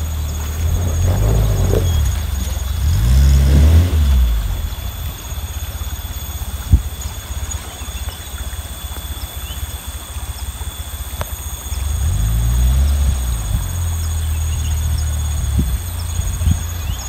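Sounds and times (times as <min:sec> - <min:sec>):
engine revving and throbbing: 0:00.0 - 0:17.0.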